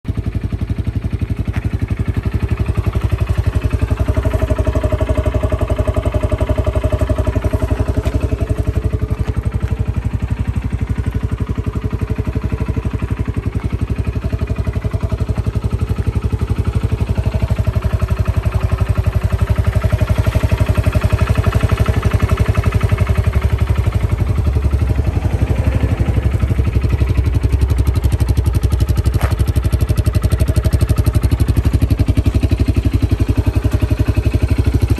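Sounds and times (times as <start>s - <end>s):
atv engine idling: 0.1s - 34.9s.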